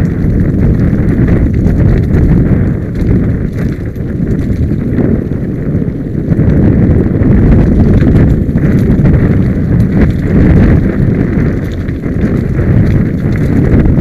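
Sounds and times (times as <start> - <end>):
bike knocks and rattles: 0.0 - 14.0
bike tyres rumbling over rocks: 0.0 - 14.0.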